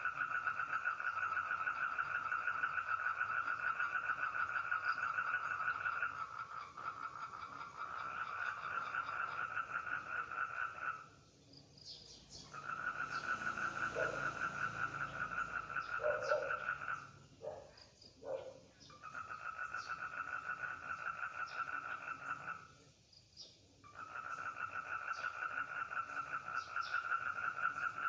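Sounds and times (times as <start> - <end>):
toads trilling: 0.0 - 11.2, 11.8 - 22.8, 23.8 - 28.0
low croaks: 0.0 - 22.9, 23.8 - 28.0.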